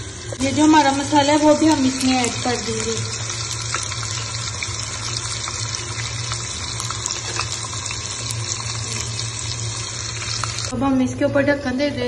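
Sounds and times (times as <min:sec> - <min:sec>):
chicken sizzling in oil: 0:00.0 - 0:10.7.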